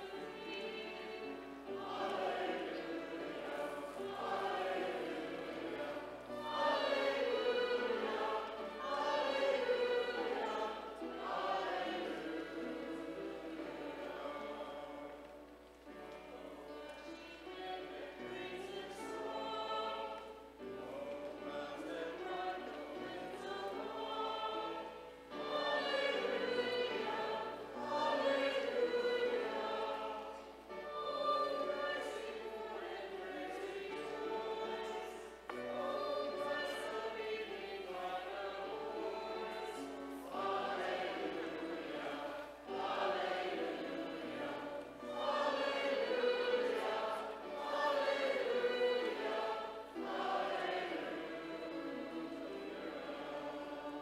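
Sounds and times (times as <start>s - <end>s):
congregation singing in unison: 0.0s - 54.0s.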